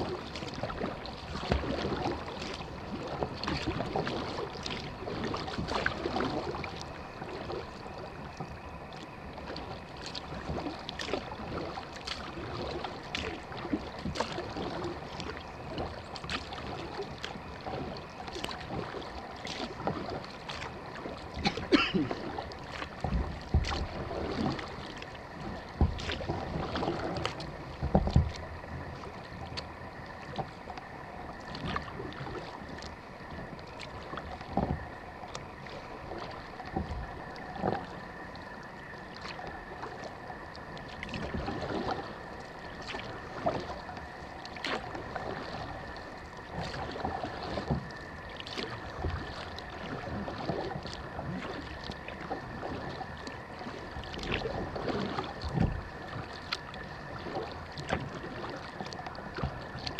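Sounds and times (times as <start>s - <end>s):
paddle strokes in water: 0.0s - 59.9s
water drips and splashes: 0.0s - 59.9s.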